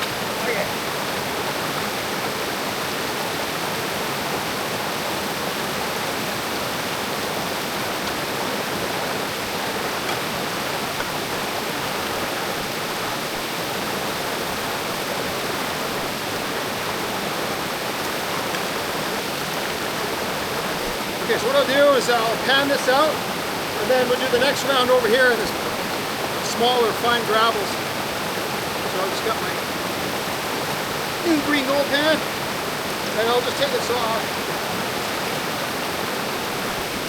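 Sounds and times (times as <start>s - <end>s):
creek rushing: 0.0s - 37.0s.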